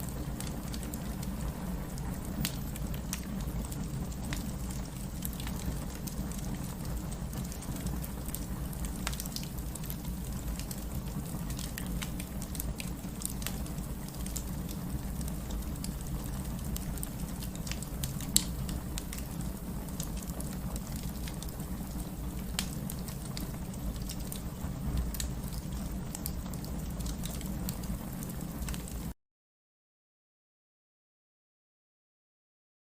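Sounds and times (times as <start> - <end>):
rain hiss: 0.0 - 29.1
fireplace crackling and popping: 0.0 - 29.2.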